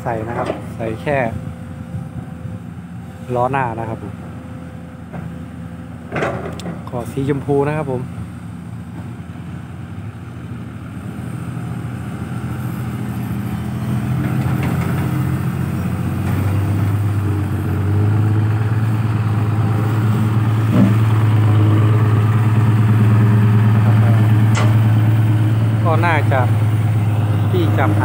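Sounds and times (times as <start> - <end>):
diesel truck engine drone: 0.0 - 28.0.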